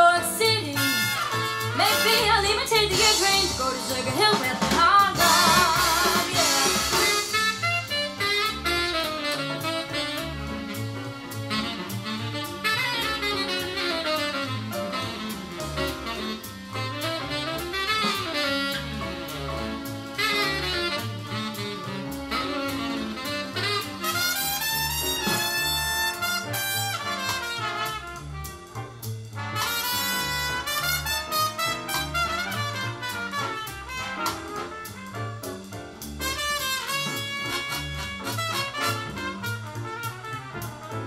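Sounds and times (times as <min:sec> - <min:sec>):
big band swing jazz over loudspeakers: 0:00.0 - 0:41.0.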